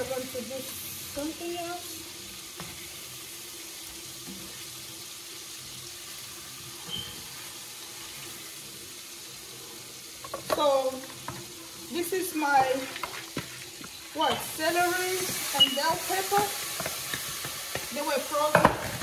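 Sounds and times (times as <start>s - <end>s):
oil sizzling in a pot: 0.0s - 19.0s.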